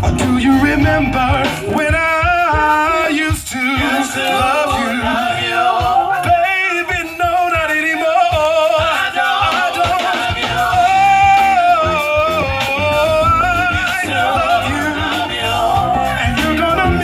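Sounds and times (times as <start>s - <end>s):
live band playing: 0.0s - 17.0s
person singing ad-libbed vocals: 0.0s - 17.0s.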